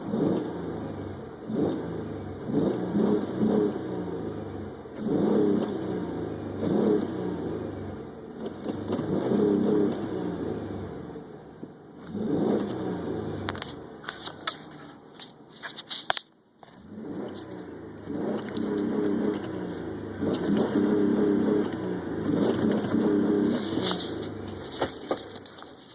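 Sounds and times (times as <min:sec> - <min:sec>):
car engine revving in bursts: 0:00.0 - 0:15.0, 0:16.7 - 0:25.9
exhaust crackles and clicks: 0:00.0 - 0:25.9.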